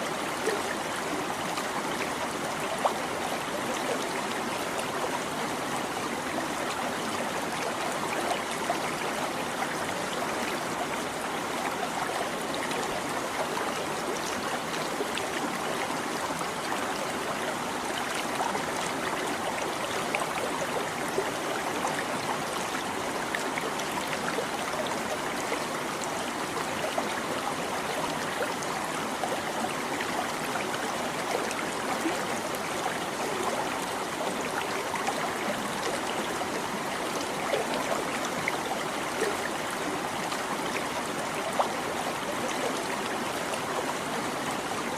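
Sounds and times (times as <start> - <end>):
small stream babbling: 0.0 - 44.9.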